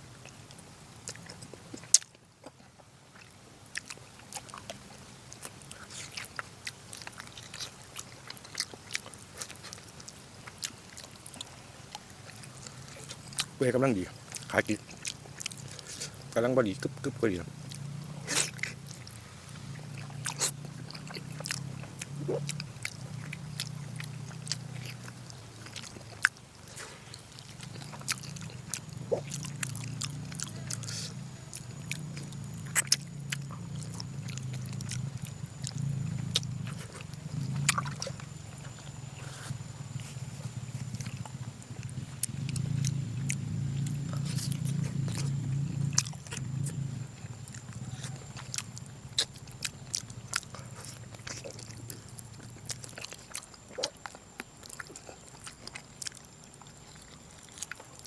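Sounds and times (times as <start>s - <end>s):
close chewing: 0.0s - 58.0s.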